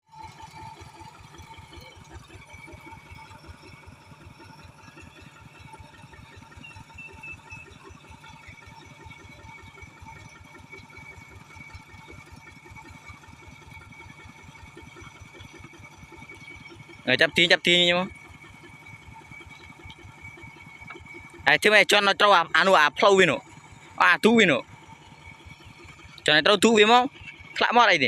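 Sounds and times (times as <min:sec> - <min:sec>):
engine chugging: 0:00.0 - 0:28.0.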